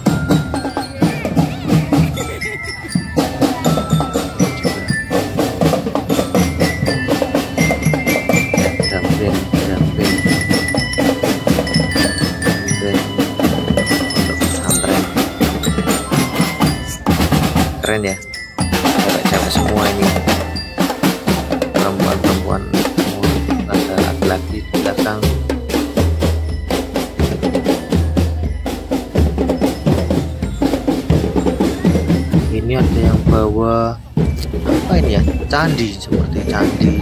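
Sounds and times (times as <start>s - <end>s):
glockenspiels playing a tune: 0.0s - 37.0s
snare and tom drum beats: 0.0s - 37.0s.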